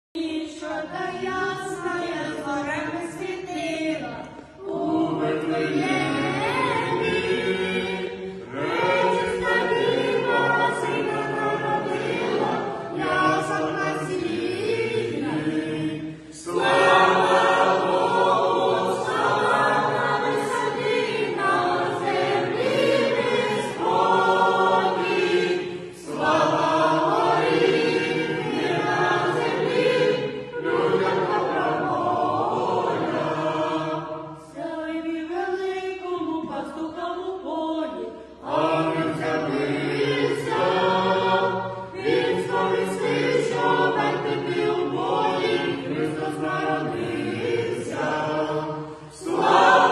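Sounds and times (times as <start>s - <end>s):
group singing unaccompanied: 0.2s - 49.9s.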